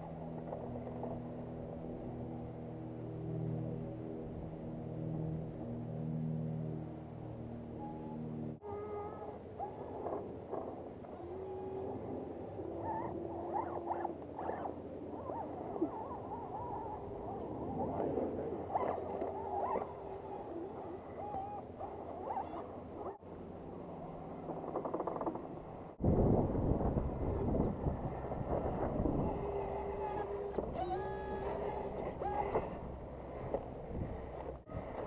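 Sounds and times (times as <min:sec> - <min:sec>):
electric motors whining: 0:00.0 - 0:25.9, 0:27.2 - 0:35.0.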